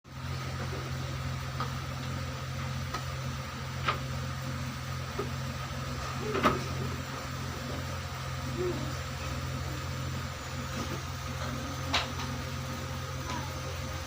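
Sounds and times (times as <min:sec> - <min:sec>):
low mechanical hum: 0:00.1 - 0:14.0.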